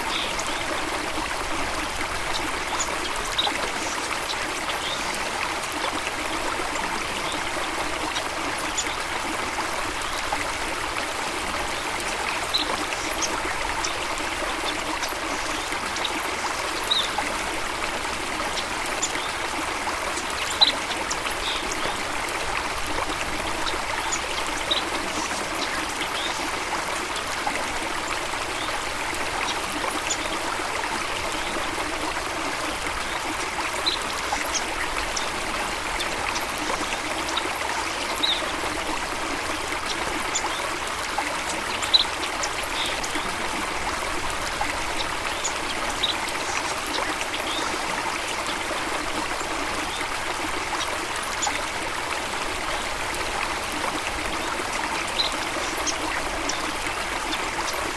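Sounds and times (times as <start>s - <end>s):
stream water trickling: 0.0s - 57.9s.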